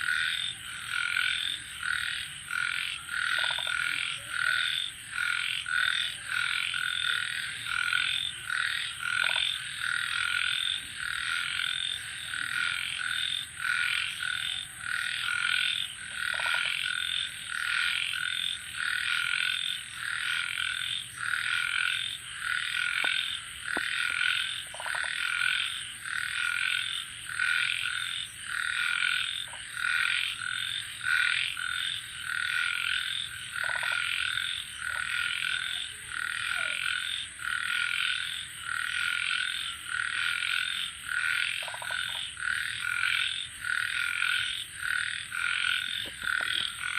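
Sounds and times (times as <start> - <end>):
crickets trilling: 0.0 - 46.9
frogs croaking: 0.0 - 46.9.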